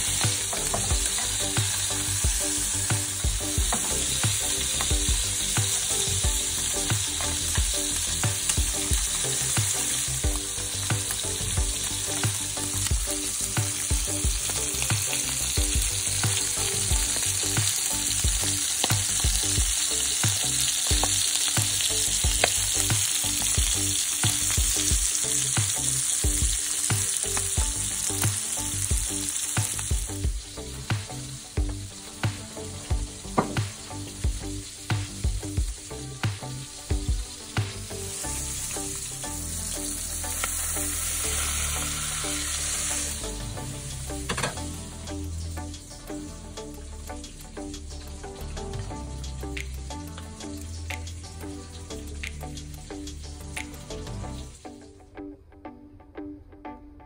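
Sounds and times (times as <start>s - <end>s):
fish sizzling in a pan: 0.0s - 54.8s.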